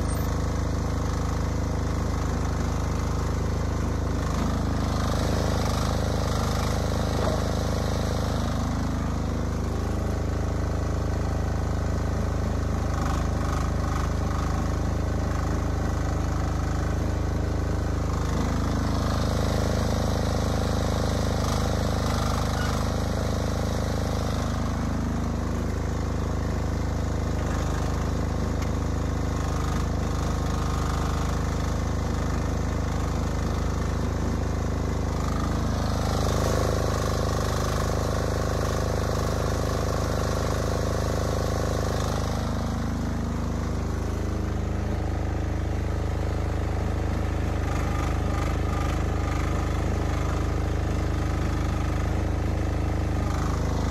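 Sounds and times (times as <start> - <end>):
excavator engine running: 0.0 - 53.9.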